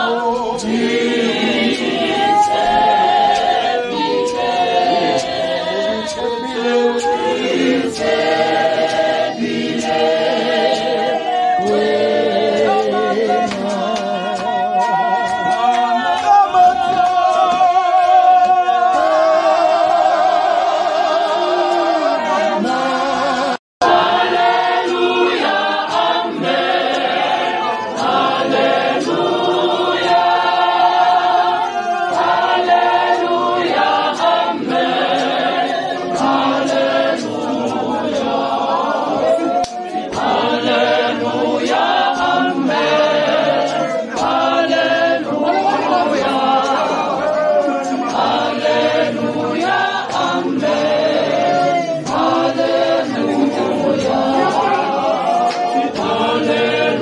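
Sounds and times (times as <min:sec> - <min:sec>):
congregation singing: 0:00.0 - 0:57.0.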